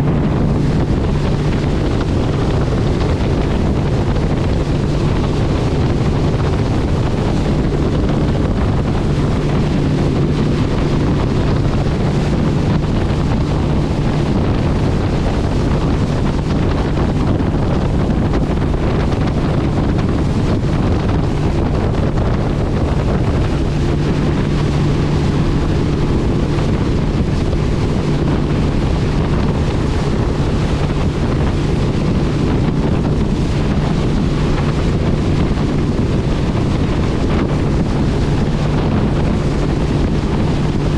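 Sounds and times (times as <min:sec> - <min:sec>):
vehicle engine hum: 0:00.0 - 0:40.9
wind and road noise: 0:00.0 - 0:40.9.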